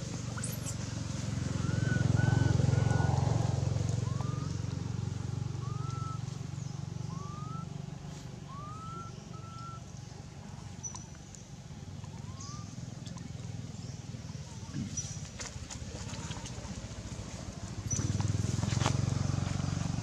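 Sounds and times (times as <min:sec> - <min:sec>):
vehicle engine hum: 0:00.0 - 0:20.0.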